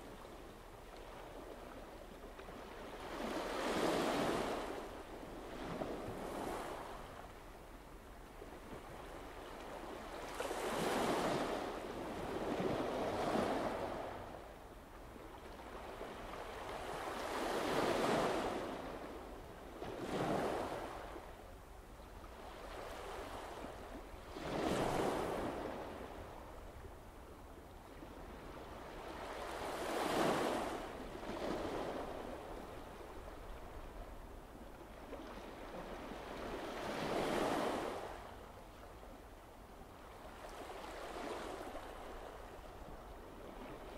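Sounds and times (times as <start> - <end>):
sea waves breaking on shore: 2.4 - 7.3, 8.6 - 14.4, 15.4 - 21.3, 22.4 - 26.5, 27.9 - 38.5, 40.0 - 43.9.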